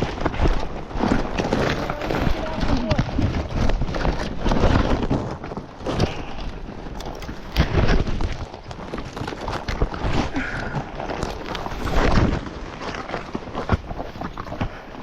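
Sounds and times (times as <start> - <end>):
horse hooves on rough ground: 0.0 - 15.0
low rumbling microphone noise: 0.0 - 15.0.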